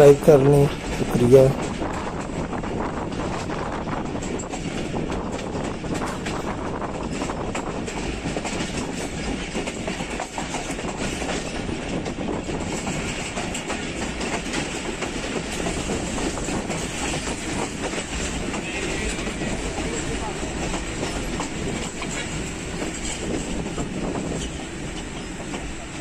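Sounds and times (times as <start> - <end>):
train wheels rumbling: 0.0 - 26.0
wheels clickety-clack on rail joints: 0.0 - 26.0.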